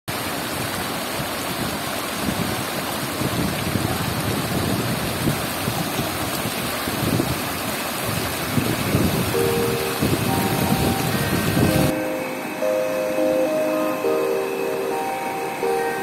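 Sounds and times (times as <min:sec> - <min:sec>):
floodwater rushing in waves: 0:00.1 - 0:16.0.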